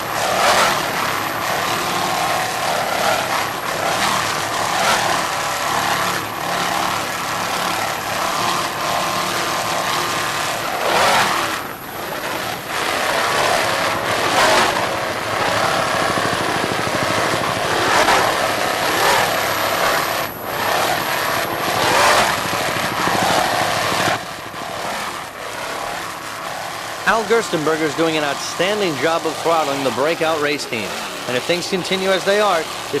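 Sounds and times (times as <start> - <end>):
powerboat engines running: 0.0 - 33.0.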